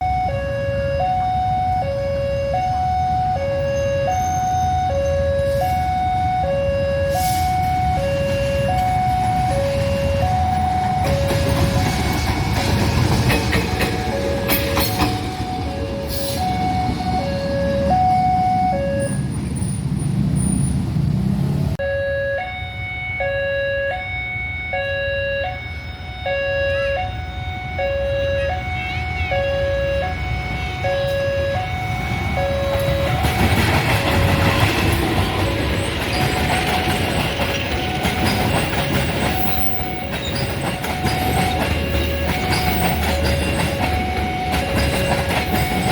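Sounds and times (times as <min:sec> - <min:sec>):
level crossing two-tone alarm: 0:00.0 - 0:19.3, 0:21.8 - 0:45.9.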